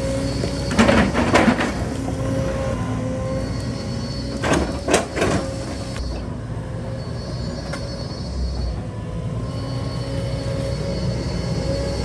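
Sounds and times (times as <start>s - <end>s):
loud metallic screech: 0.0s - 1.2s, 2.3s - 12.0s
excavator engine and hydraulics: 0.0s - 12.0s.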